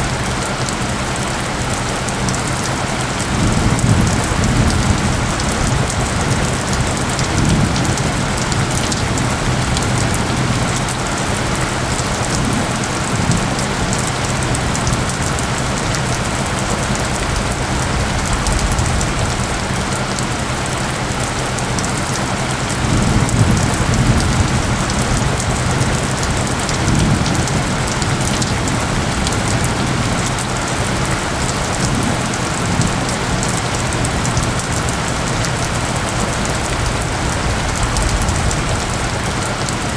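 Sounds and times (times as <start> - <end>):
low humming tones: 0.0 - 39.9
steady rain falling: 0.0 - 39.9.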